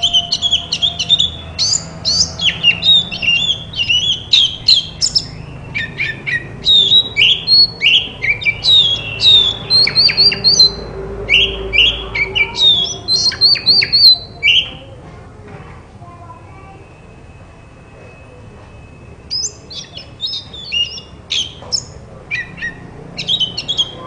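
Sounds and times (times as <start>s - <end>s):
bird singing whistled notes: 0.0s - 14.8s, 16.6s - 24.0s.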